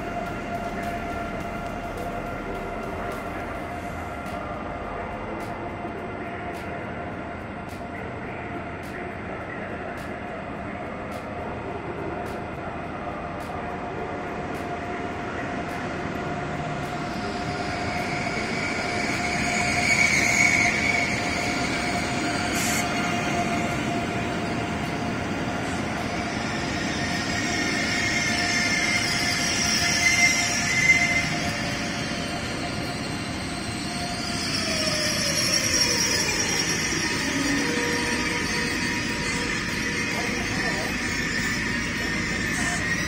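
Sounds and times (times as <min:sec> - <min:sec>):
high train squeals: 0:00.0 - 0:43.0
train rolling rush: 0:00.0 - 0:43.0
train whine: 0:00.0 - 0:43.0.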